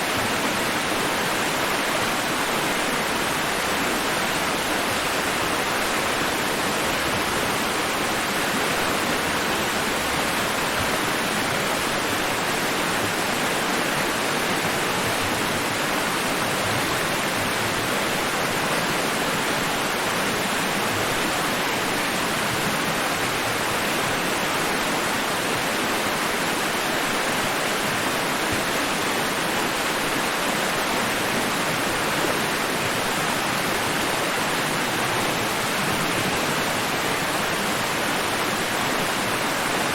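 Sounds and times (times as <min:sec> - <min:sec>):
steady white-noise hiss: 0:00.0 - 0:39.9.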